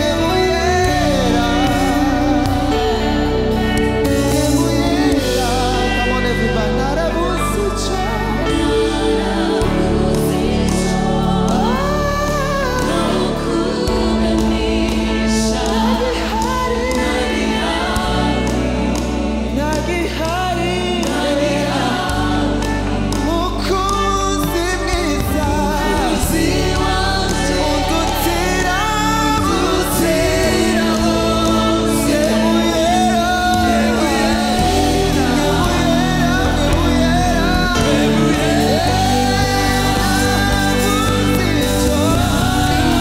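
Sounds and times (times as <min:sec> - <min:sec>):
bass guitar notes: 0:00.0 - 0:43.0
gospel band with singers: 0:00.0 - 0:43.0.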